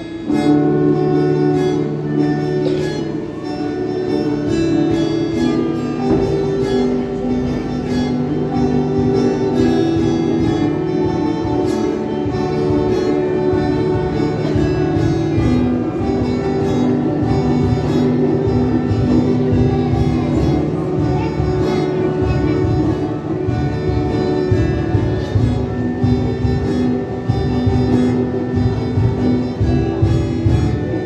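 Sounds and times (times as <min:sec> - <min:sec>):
music with long held notes: 0:00.0 - 0:31.0.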